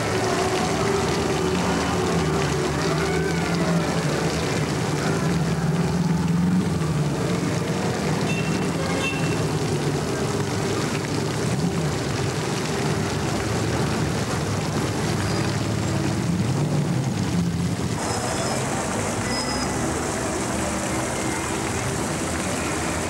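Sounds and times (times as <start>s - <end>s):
fountain splashing: 0.0s - 23.0s
street traffic: 0.0s - 23.0s.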